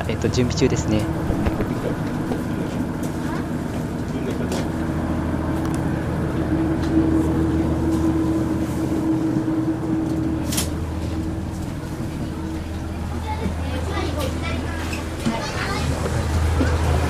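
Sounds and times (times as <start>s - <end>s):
diesel engine idling hum: 0.0s - 17.0s.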